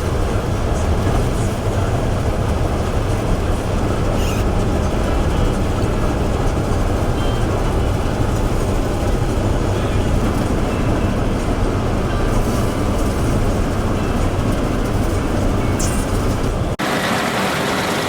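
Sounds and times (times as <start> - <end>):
combine harvester drone: 0.0 - 18.0.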